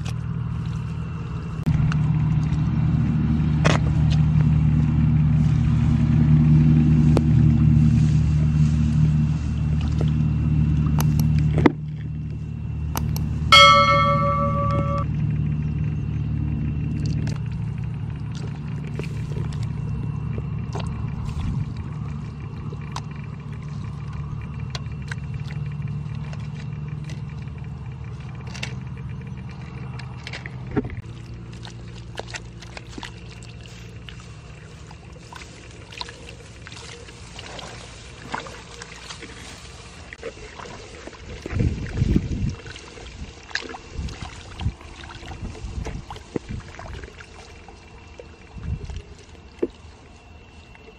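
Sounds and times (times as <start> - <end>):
muddy water splashing: 0.0 - 15.0, 16.8 - 50.9
low hum: 0.0 - 43.2.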